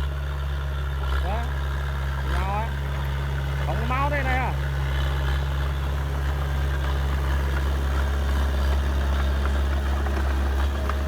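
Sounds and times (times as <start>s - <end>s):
heavy machine engine rumbling: 0.0s - 11.0s.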